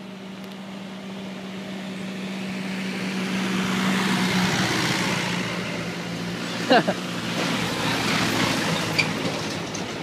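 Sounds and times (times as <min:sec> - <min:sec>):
tractor engine passing: 0:01.0 - 0:10.0.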